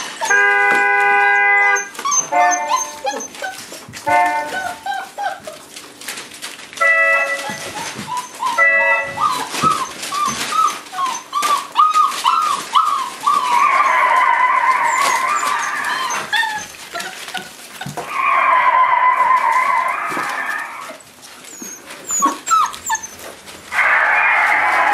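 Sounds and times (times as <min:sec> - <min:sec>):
puppies eating and lapping: 0:00.0 - 0:24.9
puppies whining: 0:00.0 - 0:24.9.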